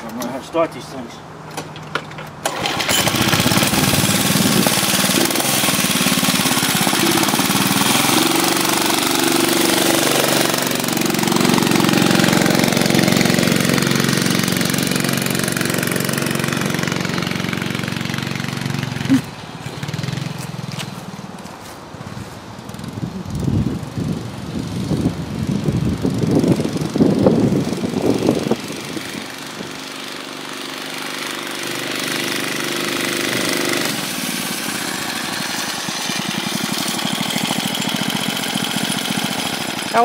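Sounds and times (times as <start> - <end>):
small motorbike engine running: 2.4 - 40.0.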